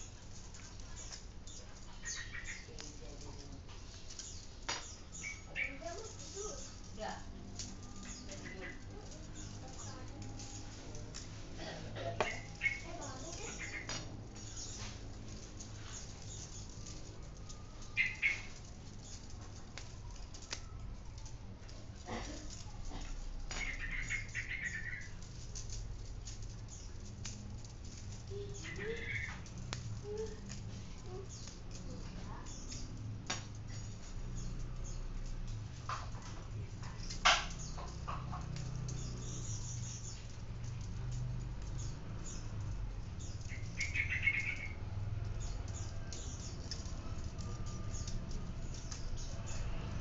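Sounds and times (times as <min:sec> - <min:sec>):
bicycle spokes clicking and rattling: 0:00.0 - 0:50.0
metal spokes jangling: 0:00.0 - 0:50.0.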